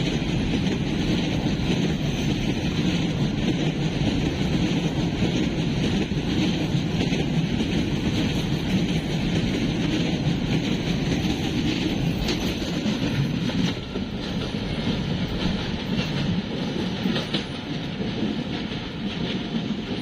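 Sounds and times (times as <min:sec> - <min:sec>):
train rumbling along rails: 0:00.0 - 0:20.0
train wheel clicks: 0:00.0 - 0:20.0.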